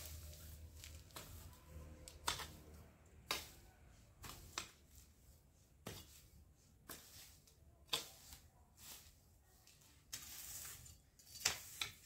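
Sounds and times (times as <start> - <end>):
garden tool chopping dry grass: 0.0 - 12.0.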